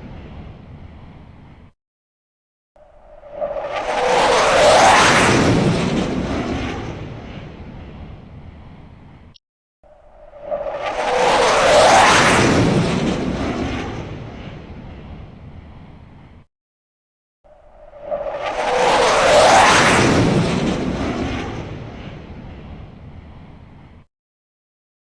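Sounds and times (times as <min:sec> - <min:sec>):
fighter jet flying past: 0:00.0 - 0:01.8, 0:02.8 - 0:16.5, 0:17.5 - 0:24.1.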